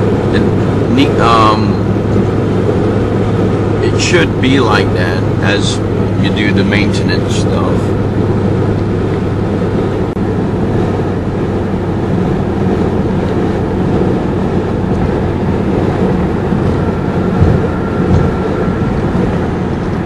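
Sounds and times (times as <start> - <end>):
diesel engine droning: 0.0 - 20.0
road and wind noise: 0.0 - 20.0.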